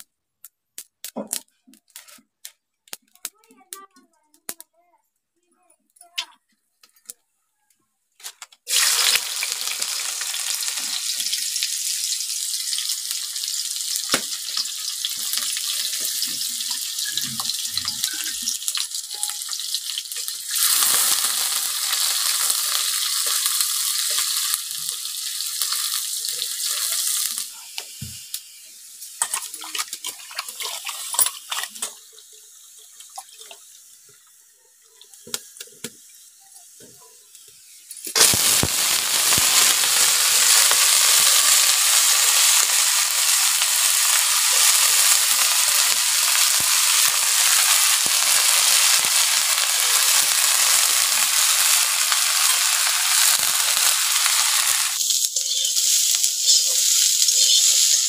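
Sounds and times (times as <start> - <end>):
hot oil sizzling: 8.3 - 58.0.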